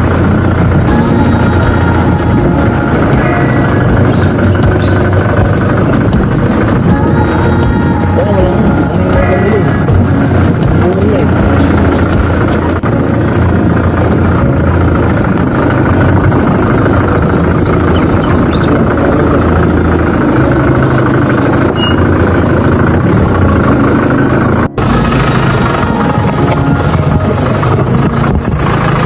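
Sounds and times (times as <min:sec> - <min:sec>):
road noise: 0:00.0 - 0:29.0
vehicle engine: 0:00.0 - 0:29.0.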